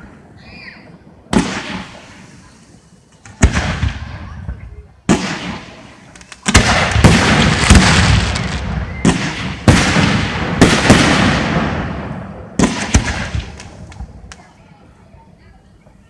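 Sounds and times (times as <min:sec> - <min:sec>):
fireworks bangs with rolling rumble: 0:00.0 - 0:16.0.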